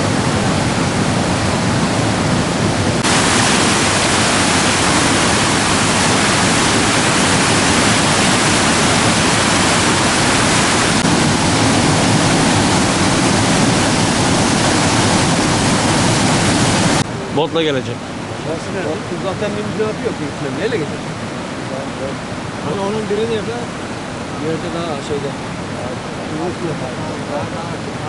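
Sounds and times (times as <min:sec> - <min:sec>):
fast-flowing river water: 0:00.0 - 0:28.0.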